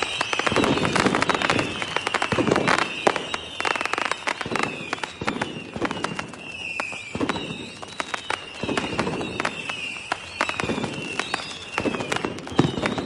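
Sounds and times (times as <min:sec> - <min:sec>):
fireworks bangs and crackles: 0:00.0 - 0:13.0
fireworks whistling: 0:00.0 - 0:13.0.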